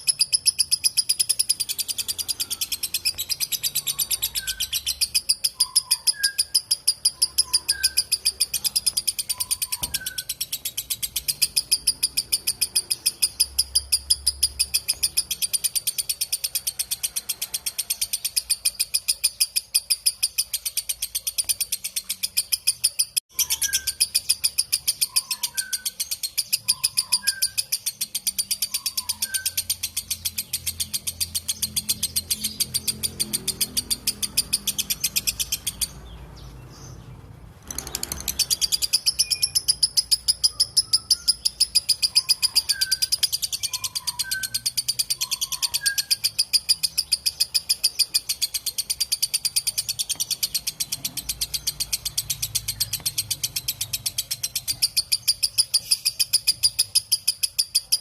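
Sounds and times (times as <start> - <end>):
bird chattering trill: 0.0 - 58.0.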